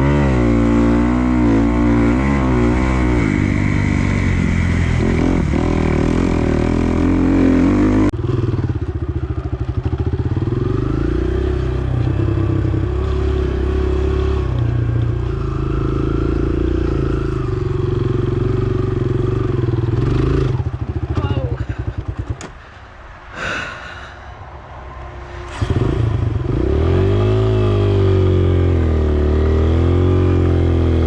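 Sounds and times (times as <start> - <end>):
dirt bike engine revving: 0.0 - 22.5, 25.3 - 31.0.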